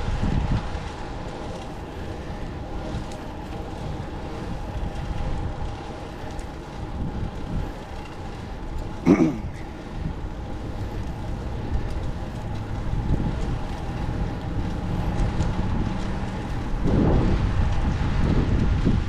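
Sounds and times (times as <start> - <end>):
bicycle road rumble: 0.0 - 19.0
wind on microphone: 0.0 - 19.0.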